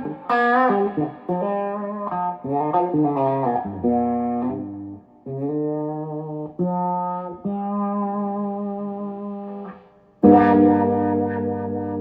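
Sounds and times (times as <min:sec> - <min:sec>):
electric guitar through wah pedal: 0:00.0 - 0:12.0.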